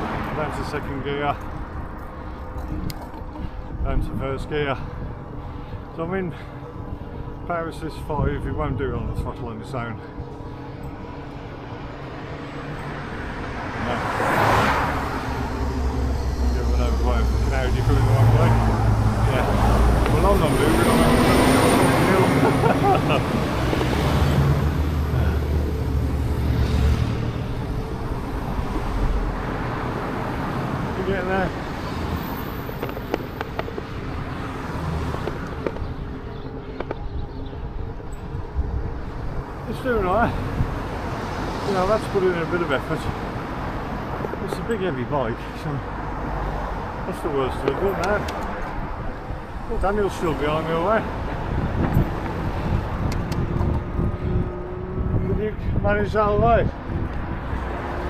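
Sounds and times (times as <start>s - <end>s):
wind and road rumble: 0.0s - 58.0s
motor vehicle passing: 10.0s - 44.9s, 45.9s - 58.0s.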